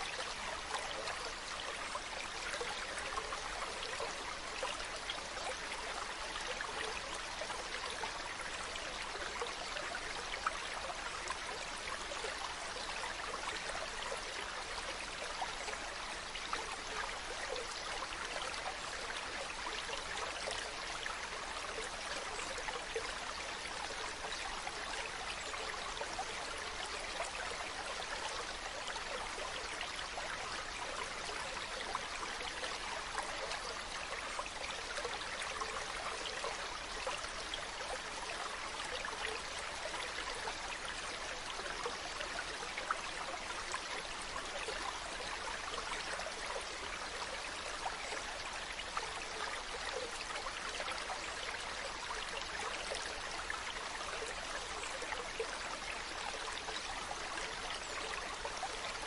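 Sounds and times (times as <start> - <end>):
mountain stream babbling: 0.0 - 59.0.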